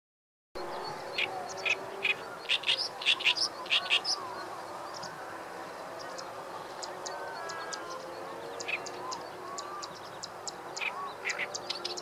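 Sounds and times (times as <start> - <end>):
bird chattering song: 0.7 - 5.2, 5.9 - 12.0.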